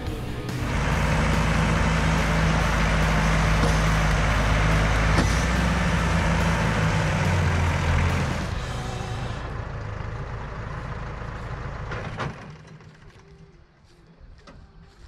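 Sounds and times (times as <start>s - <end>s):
heavy vehicle engine humming: 0.0s - 13.9s.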